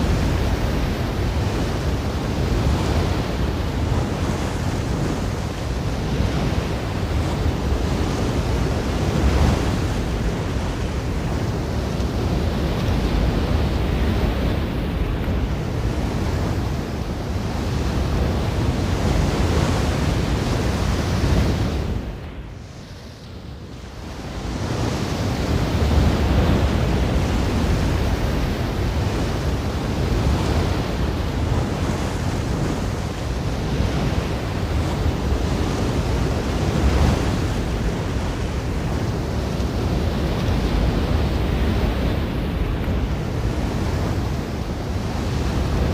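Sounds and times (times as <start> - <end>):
ocean waves washing onto beach: 0.0 - 45.9.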